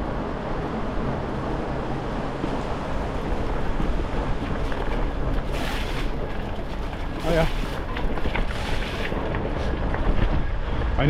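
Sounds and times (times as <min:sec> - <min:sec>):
bicycle road noise: 0:00.0 - 0:11.0
wind on microphone: 0:00.0 - 0:11.0.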